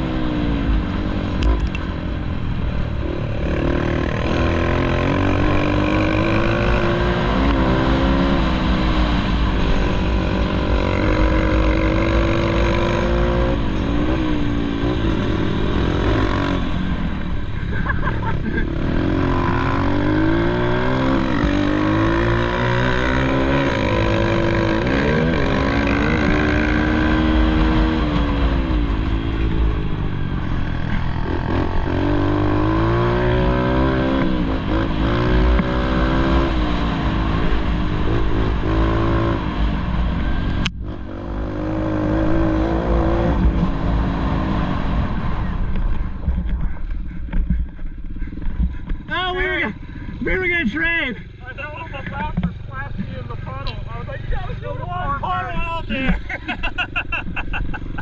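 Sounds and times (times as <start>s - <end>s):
pit bike engine revving: 3.0s - 58.0s.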